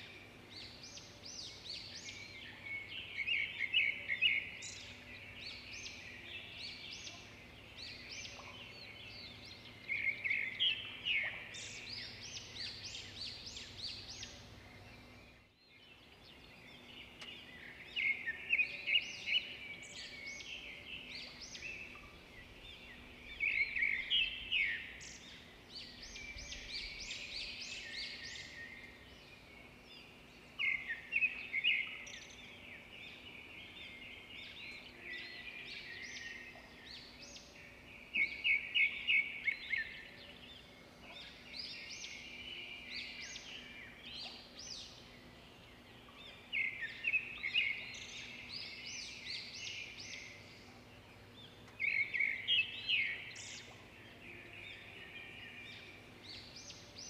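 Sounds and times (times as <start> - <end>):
birds chirping: 0.0 - 57.0
birds twittering: 0.0 - 57.0.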